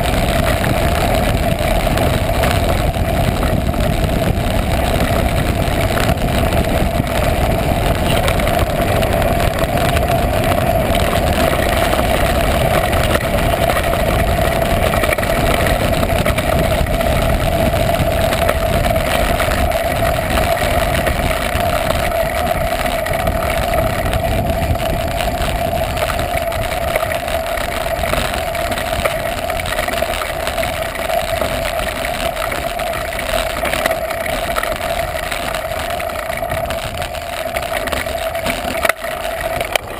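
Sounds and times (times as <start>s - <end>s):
bike rolling rumble: 0.0s - 39.9s
wind: 0.0s - 39.9s.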